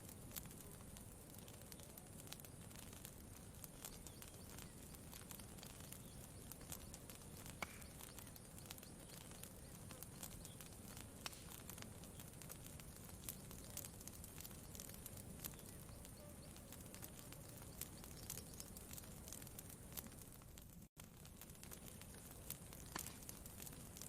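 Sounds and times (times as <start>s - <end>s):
faint campfire crackling: 0.0s - 24.0s.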